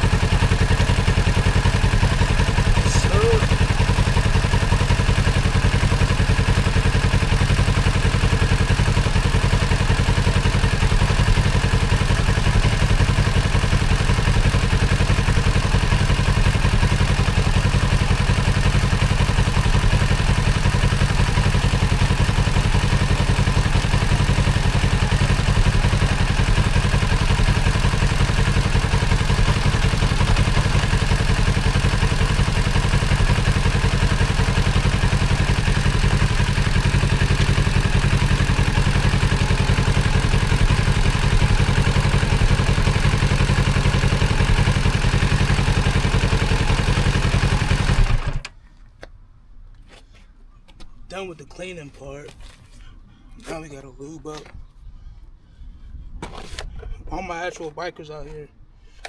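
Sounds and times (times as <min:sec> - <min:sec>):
motorcycle engine idling: 0:00.0 - 0:48.6.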